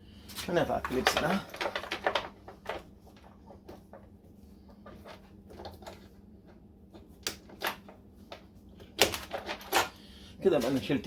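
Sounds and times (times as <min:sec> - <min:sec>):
wires being handled: 0:00.2 - 0:11.0.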